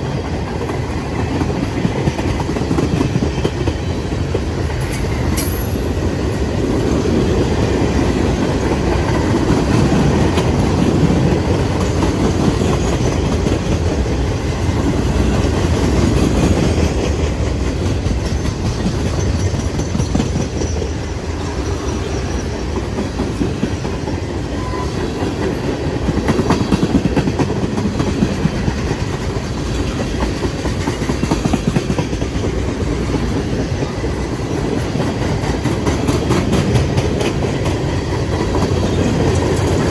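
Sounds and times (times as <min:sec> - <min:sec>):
freight train cars rolling: 0:00.0 - 0:39.9.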